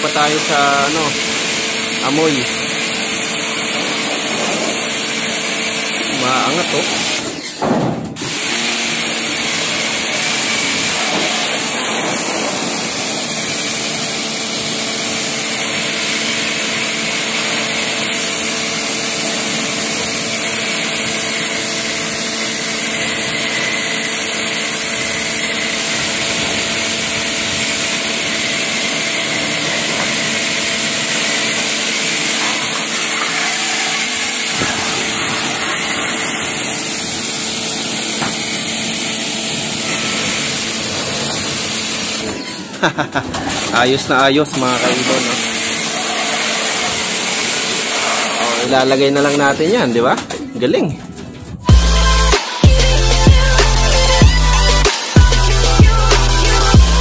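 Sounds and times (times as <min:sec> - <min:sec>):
water jet hissing: 0:00.0 - 0:07.4, 0:08.2 - 0:42.5, 0:43.6 - 0:49.9
pressure washer motor hum: 0:00.0 - 0:50.8, 0:51.6 - 0:57.0.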